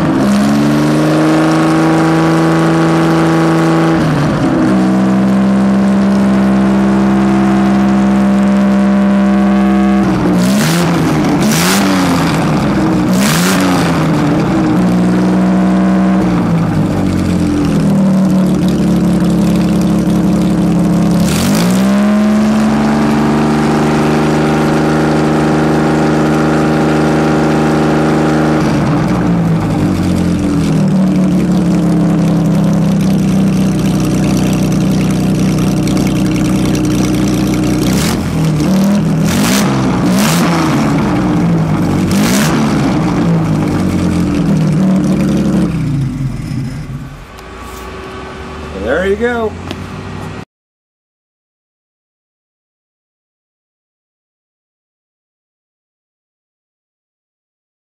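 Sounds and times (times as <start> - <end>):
car engine revving: 0.0 - 50.4.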